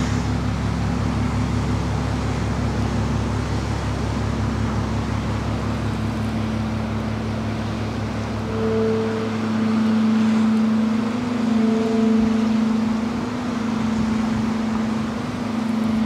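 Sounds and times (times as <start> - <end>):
gong ringing with pulsing drone: 0.0 - 16.0.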